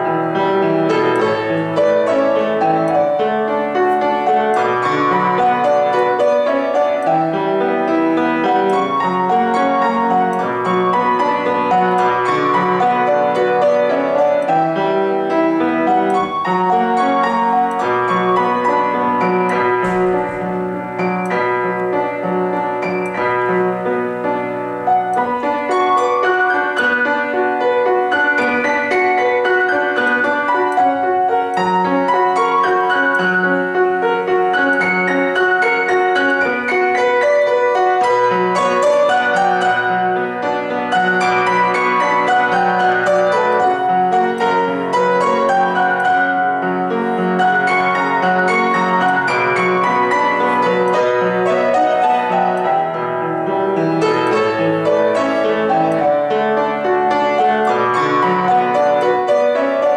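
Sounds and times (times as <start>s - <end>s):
classical piano piece: 0.0s - 59.9s.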